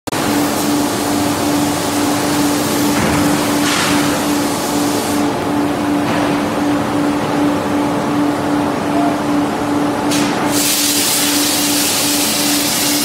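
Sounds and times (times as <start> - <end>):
workshop noise: 0.1 - 13.0.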